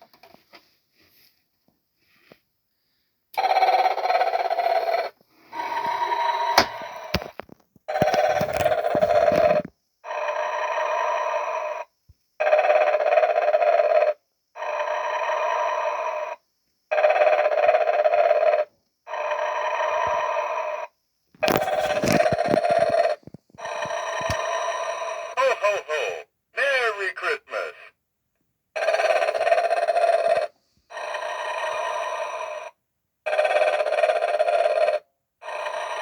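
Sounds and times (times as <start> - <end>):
toy snoring through buzzy speaker: 3.4 - 7.2, 7.9 - 26.1, 28.8 - 36.0.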